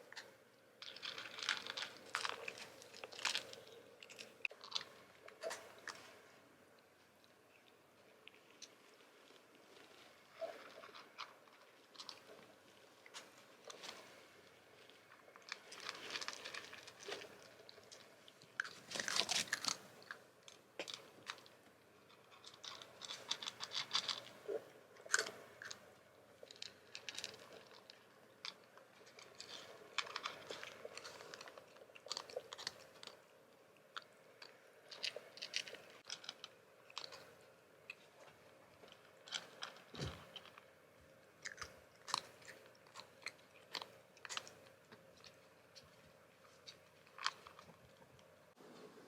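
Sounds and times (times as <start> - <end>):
kitten chewing and crunching: 0.0 - 49.0.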